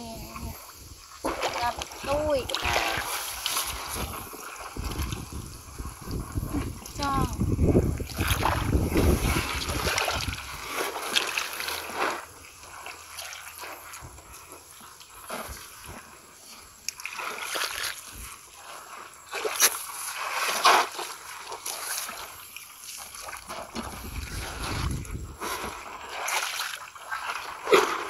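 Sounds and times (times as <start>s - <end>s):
water splashing around wading legs: 0.1s - 28.0s.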